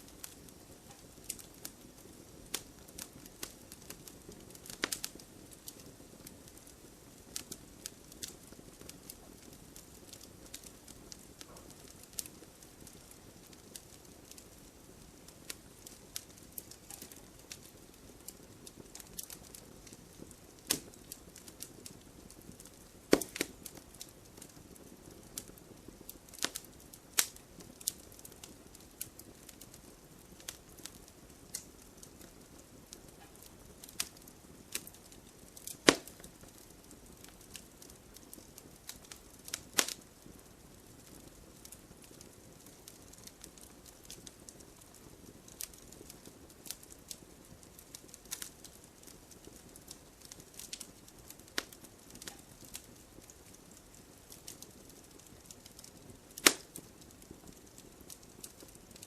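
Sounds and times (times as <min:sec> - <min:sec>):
firewood crackling and popping: 0:00.0 - 0:59.0
low steady hiss: 0:00.0 - 0:59.0.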